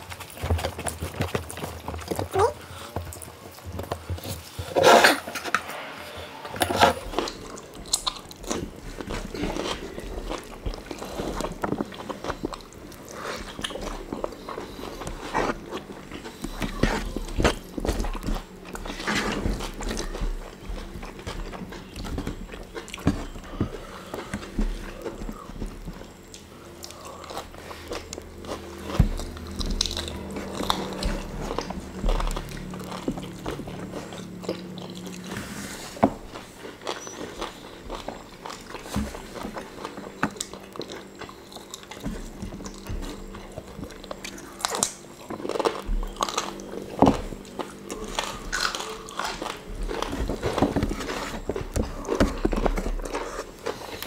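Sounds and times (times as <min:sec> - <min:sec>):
people chewing fried chicken: 0:00.0 - 0:05.3, 0:06.7 - 0:54.0.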